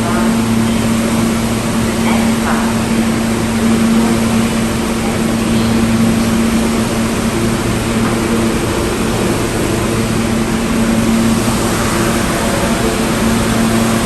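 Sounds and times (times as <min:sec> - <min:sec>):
broad rushing noise: 0:00.0 - 0:14.0
low mechanical hum: 0:00.0 - 0:14.0.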